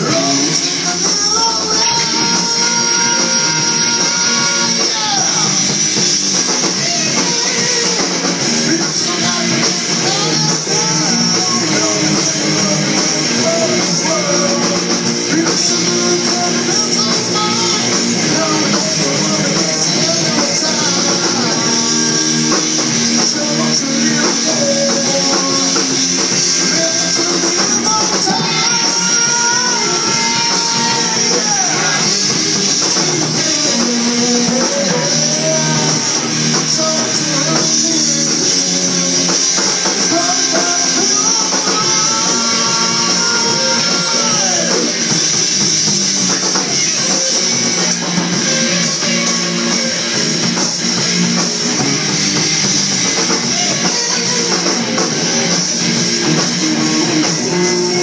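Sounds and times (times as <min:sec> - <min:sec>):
rock music with guitar: 0:00.0 - 0:58.0.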